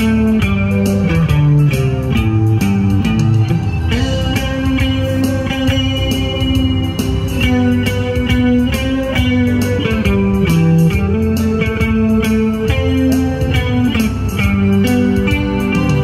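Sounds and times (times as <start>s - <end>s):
bass line: 0.0s - 16.0s
guitar melody: 0.0s - 16.0s
steady beat: 0.0s - 16.0s.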